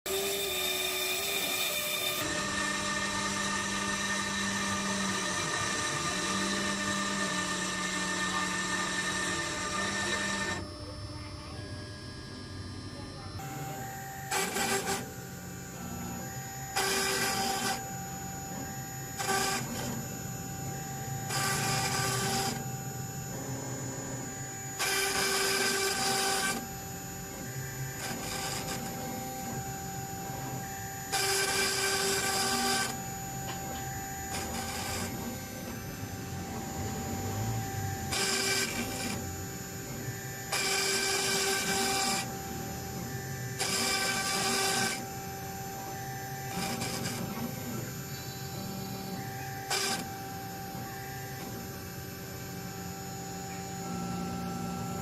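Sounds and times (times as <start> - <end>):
machine rasping bursts: 0.1 - 10.7, 13.4 - 55.0
engraving machine spindle whine: 0.1 - 55.0.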